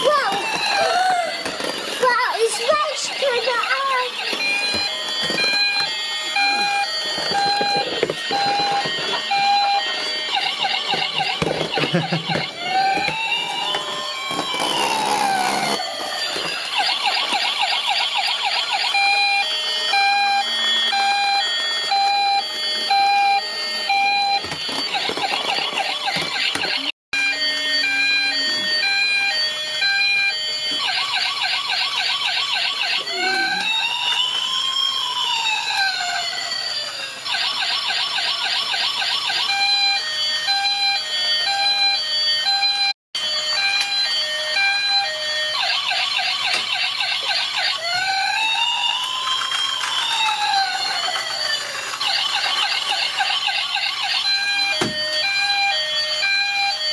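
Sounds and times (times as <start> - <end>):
toy siren wailing: 0.0 - 56.9.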